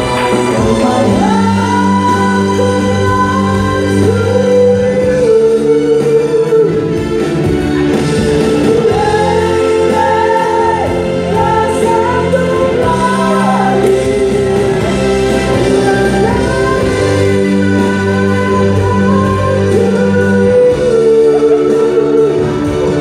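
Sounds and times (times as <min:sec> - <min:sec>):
instrumental accompaniment: 0:00.0 - 0:23.0
person singing: 0:00.0 - 0:23.0.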